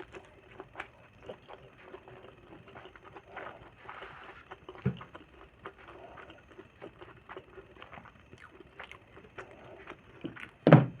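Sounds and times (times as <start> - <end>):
chewing and lip-smacking: 0.0 - 10.7.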